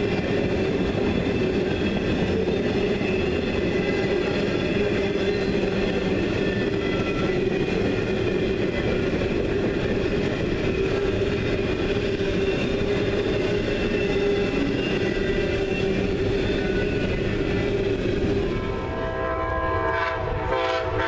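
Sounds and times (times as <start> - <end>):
steel wheels rumbling on rail: 0.0 - 21.0.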